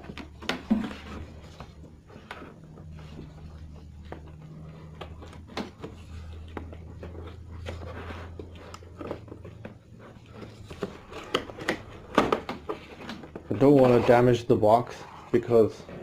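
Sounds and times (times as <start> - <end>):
cardboard packaging clicks and rustles: 0.0 - 16.0
low steady hum: 0.0 - 16.0.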